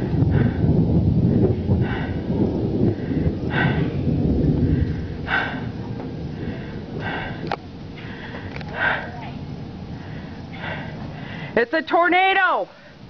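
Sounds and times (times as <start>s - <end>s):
loud low rumble: 0.0s - 11.6s
heavy breathing: 0.1s - 11.6s.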